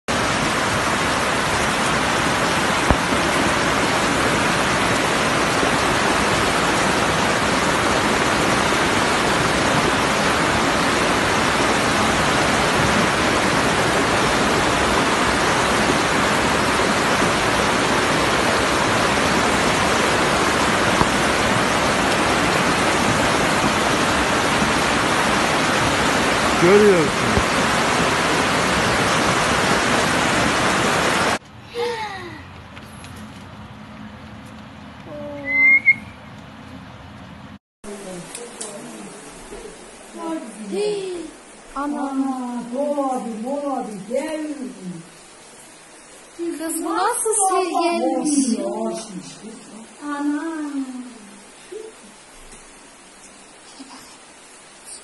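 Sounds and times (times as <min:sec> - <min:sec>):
flood water roaring: 0:00.1 - 0:55.0.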